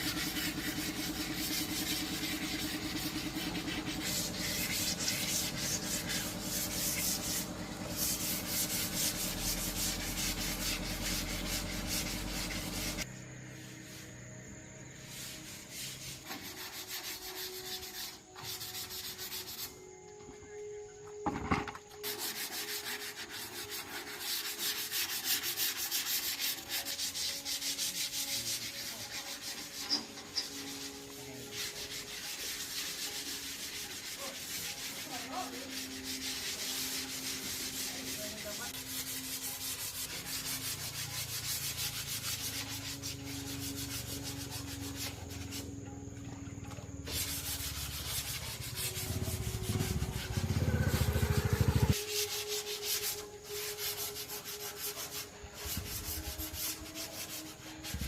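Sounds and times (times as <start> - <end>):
sanding scratchy rubbing: 0.0 - 14.1, 15.0 - 19.9, 21.9 - 45.8, 47.0 - 58.0.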